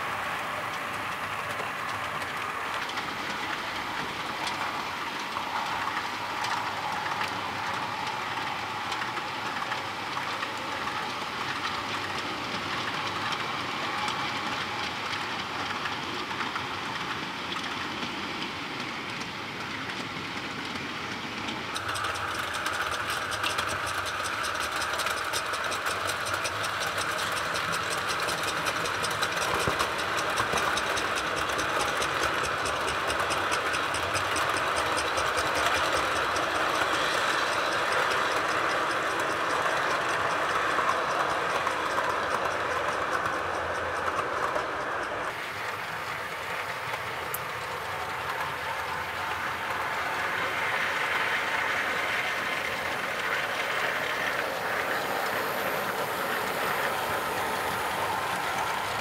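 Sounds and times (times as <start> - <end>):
model train motor whirring: 0.0 - 18.4, 21.5 - 59.0
wheels clicking over rail joints: 0.0 - 59.0.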